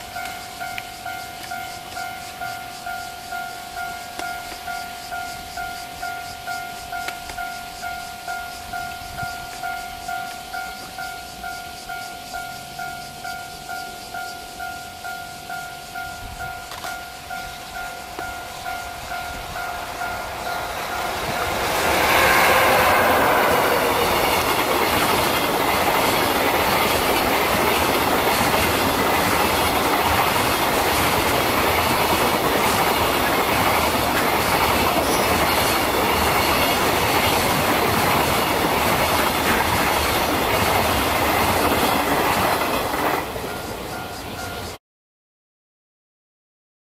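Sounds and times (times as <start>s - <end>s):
freight train wheels rumbling on rails: 0.0s - 44.8s.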